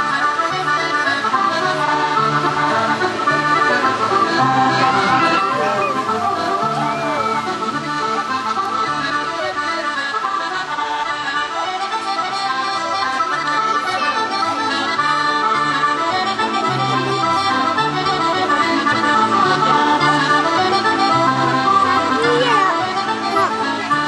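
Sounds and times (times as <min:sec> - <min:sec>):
accordion playing a folk tune: 0:00.0 - 0:24.0.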